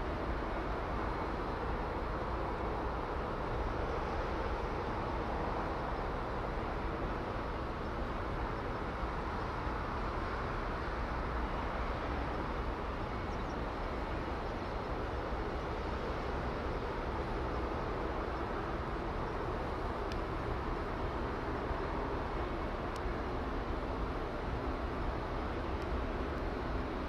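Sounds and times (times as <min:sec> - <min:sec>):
faint steady hum: 0:00.0 - 0:27.0
low rumble and hiss: 0:00.0 - 0:27.0.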